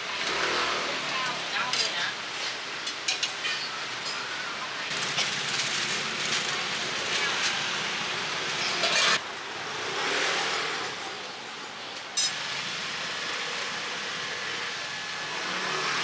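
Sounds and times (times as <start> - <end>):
food stall background hiss: 0.0 - 16.0.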